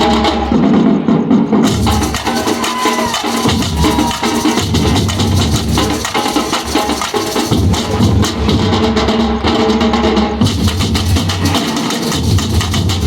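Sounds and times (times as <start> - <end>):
samba drums: 0.0 - 13.0.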